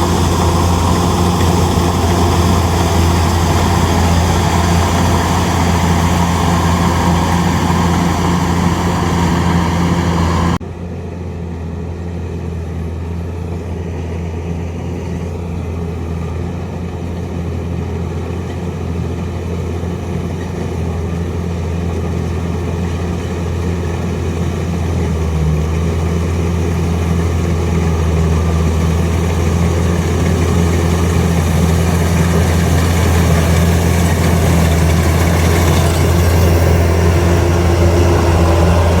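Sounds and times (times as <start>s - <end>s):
combine harvester diesel engine: 0.0s - 39.0s.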